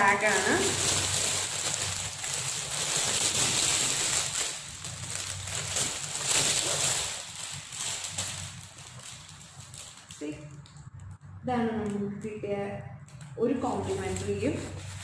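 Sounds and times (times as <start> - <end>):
plastic wrapping crinkling: 0.0 - 11.2, 13.0 - 15.0.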